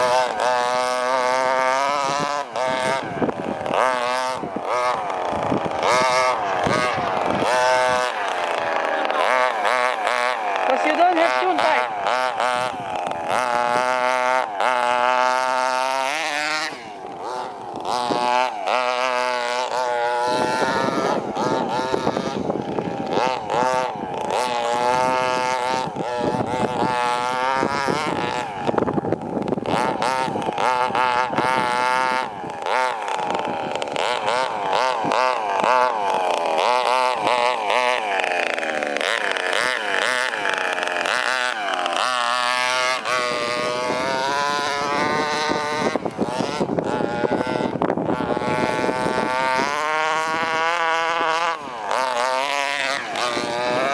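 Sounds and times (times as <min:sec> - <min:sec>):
model car engine revving: 0:00.0 - 0:53.9.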